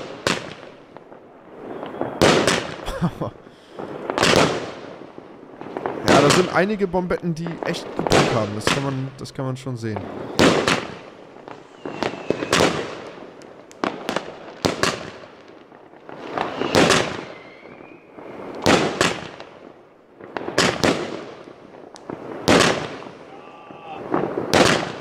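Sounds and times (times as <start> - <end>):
fireworks bangs: 0.0 - 25.0
fireworks crackle: 0.0 - 25.0.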